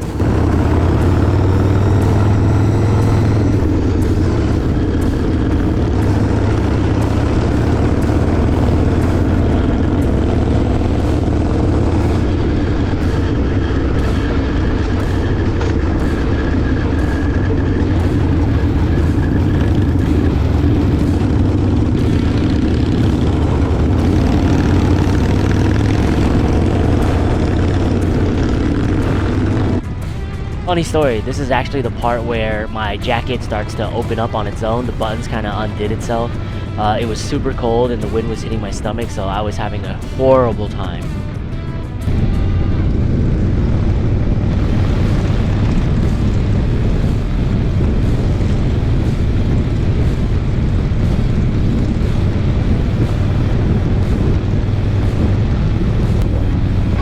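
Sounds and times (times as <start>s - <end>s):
motorcycle engine running: 0.0s - 57.0s
rushing wind: 0.0s - 57.0s.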